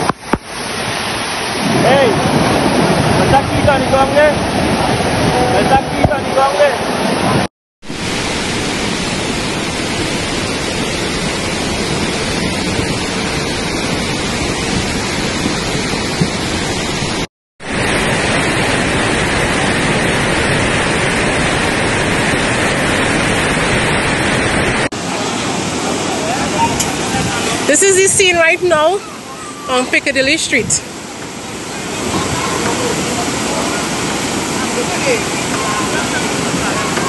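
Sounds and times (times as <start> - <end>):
floodwater rushing: 0.0 - 37.0
heavy rain: 0.0 - 37.0.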